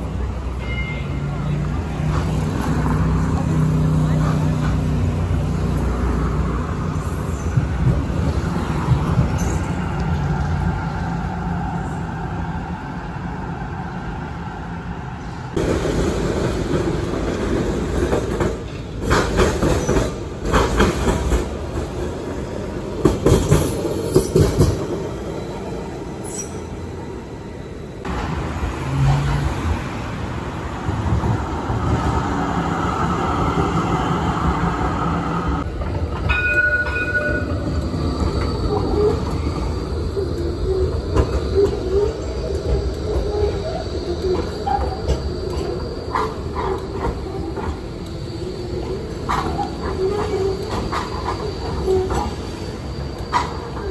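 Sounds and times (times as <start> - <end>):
traffic noise: 0.0 - 53.9
tram wheels rumbling and clattering: 0.0 - 53.9.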